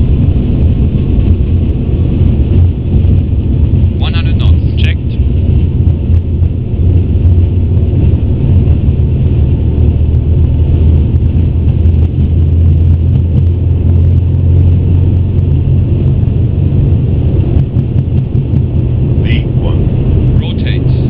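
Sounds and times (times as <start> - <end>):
wheels rumbling on runway: 0.0 - 21.0.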